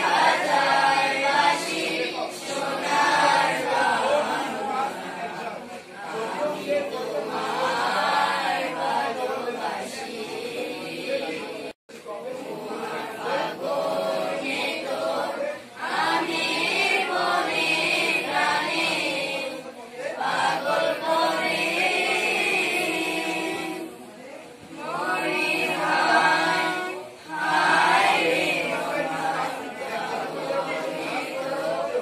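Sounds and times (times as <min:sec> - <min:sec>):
children singing in chorus: 0:00.0 - 0:05.2, 0:06.0 - 0:11.7, 0:12.4 - 0:19.6, 0:20.2 - 0:32.0.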